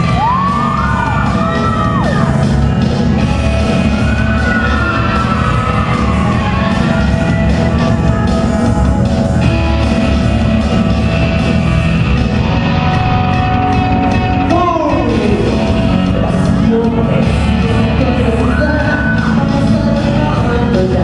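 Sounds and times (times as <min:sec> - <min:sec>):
live rock music with singer: 0:00.0 - 0:21.0.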